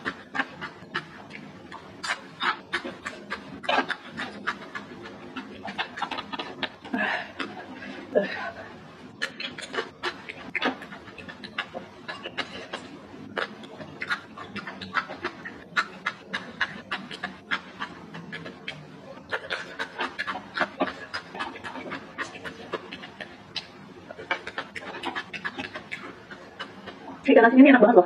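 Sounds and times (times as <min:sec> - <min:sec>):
chewing crispy food: 0:00.0 - 0:27.3.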